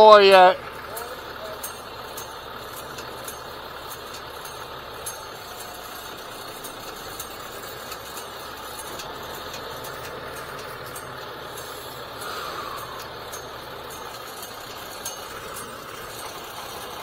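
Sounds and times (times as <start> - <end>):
truck engine running: 0.0 - 17.0
faint ticks: 1.6 - 17.0.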